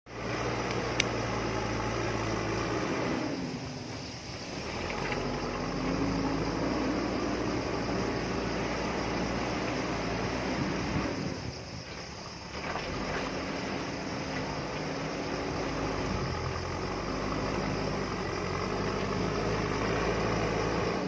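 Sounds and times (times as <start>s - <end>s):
backhoe diesel engine running: 0.1s - 21.0s.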